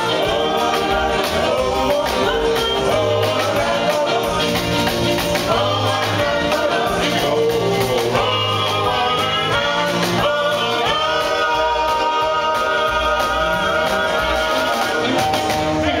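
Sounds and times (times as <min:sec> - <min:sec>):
double bass: 0:00.0 - 0:16.0
drums: 0:00.0 - 0:16.0
guitar: 0:00.0 - 0:16.0
woman and man singing: 0:00.0 - 0:16.0.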